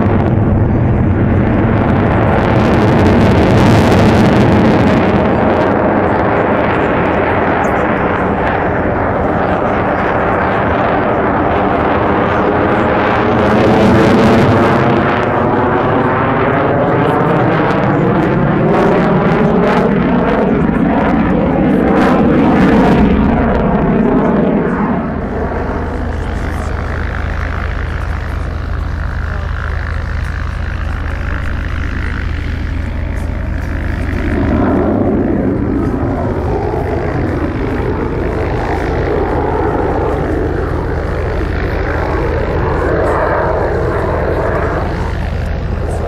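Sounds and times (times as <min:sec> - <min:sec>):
fighter jet engine noise: 0:00.0 - 0:46.0.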